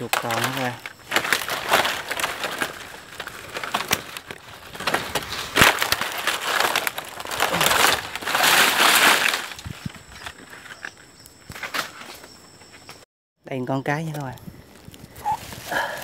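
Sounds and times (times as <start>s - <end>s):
dry fronds rustling and snapping: 0.0s - 12.3s, 14.1s - 16.0s.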